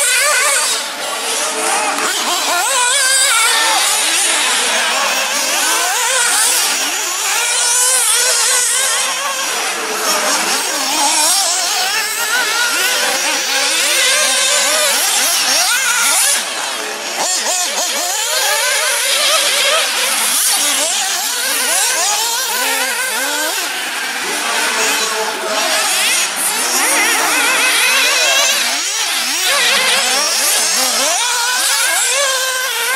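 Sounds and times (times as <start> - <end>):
rc buggy engines revving: 0.0 - 32.9.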